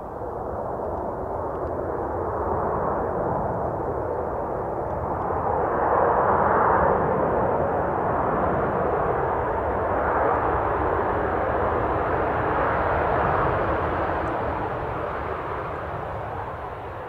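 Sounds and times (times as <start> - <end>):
jet engine reverse thrust roar: 0.0 - 17.0.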